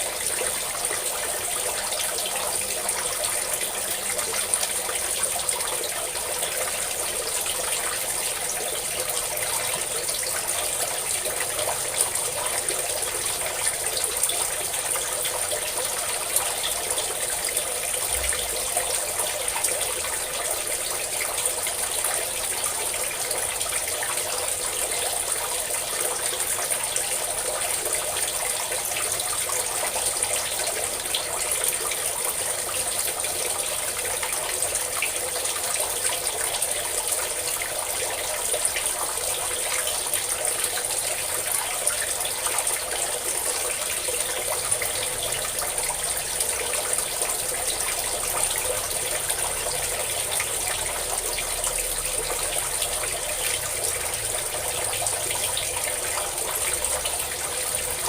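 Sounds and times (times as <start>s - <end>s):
water pouring and splashing: 0.0s - 58.0s.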